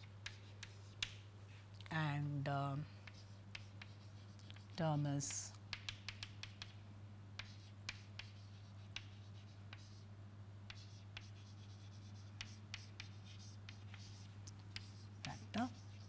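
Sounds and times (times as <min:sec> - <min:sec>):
chalk tapping and scratching: 0:00.0 - 0:01.2, 0:03.0 - 0:06.8, 0:07.4 - 0:10.0, 0:10.7 - 0:16.0
steady low hum: 0:00.0 - 0:16.0.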